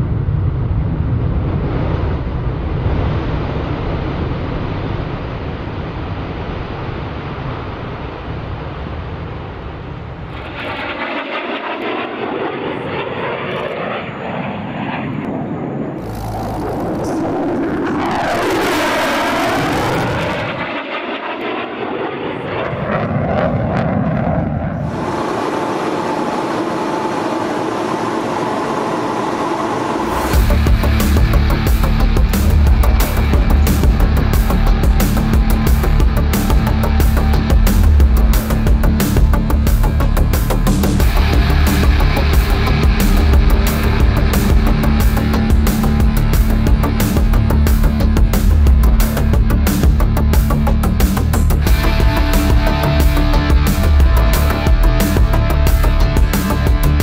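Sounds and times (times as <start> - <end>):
jet engine rumble: 0.0 - 57.0
jet flying past whine: 0.0 - 57.0.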